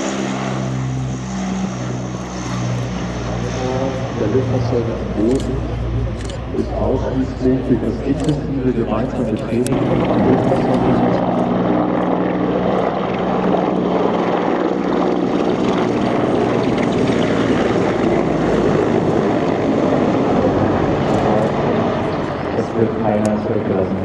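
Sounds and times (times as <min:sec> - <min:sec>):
helicopter flying low: 0:00.0 - 0:24.0.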